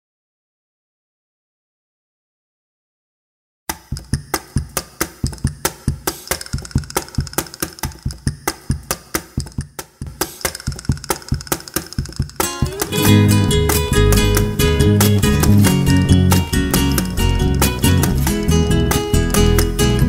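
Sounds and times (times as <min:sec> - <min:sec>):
wooden hand percussion rhythm: 0:03.7 - 0:20.0.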